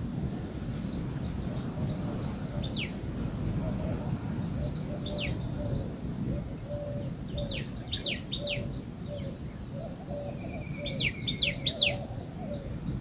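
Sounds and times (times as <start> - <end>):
birds chirping: 0.7 - 13.0.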